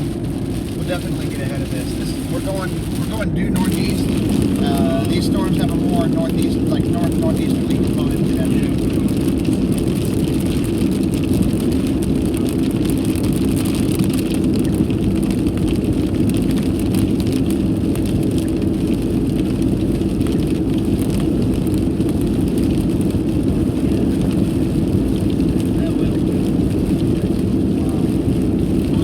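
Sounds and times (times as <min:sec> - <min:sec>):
car cabin road and engine noise: 0:00.0 - 0:29.0.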